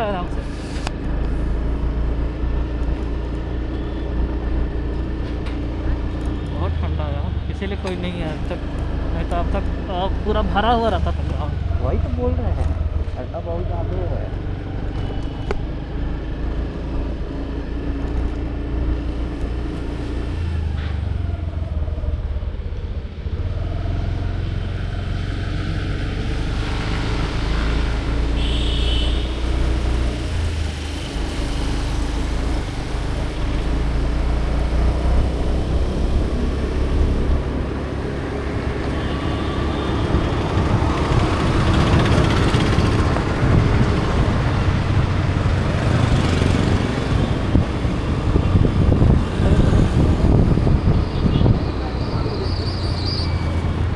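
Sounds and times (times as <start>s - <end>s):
road and wind noise: 0.0s - 53.9s
vehicle engine hum: 0.0s - 53.9s.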